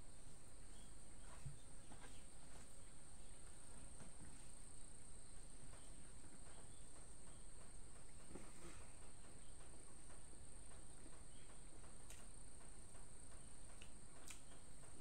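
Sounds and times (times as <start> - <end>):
steady high-pitched whine: 0.0 - 15.0.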